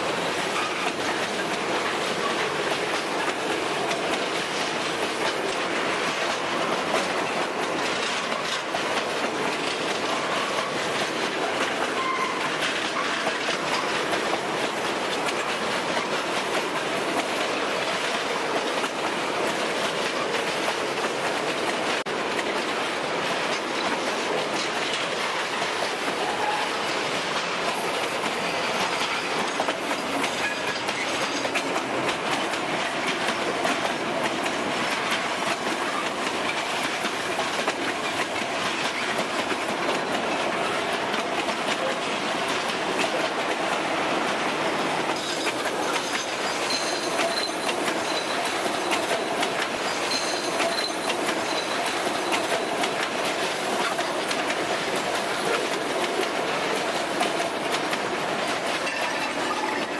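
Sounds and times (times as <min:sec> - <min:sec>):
steel train wheels clattering on rails: 0:00.0 - 0:59.9.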